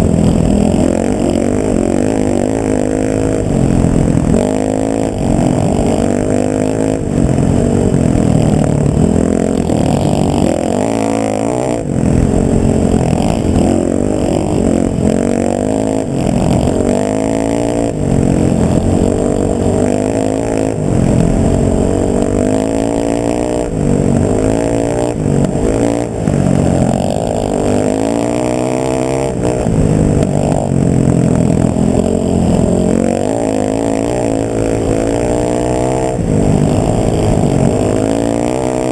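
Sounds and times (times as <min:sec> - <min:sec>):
vehicle engine accelerating: 0:00.0 - 0:38.9.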